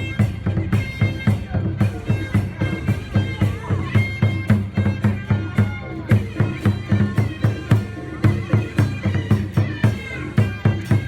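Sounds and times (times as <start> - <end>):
background music with quick drum beat: 0.0 - 11.0.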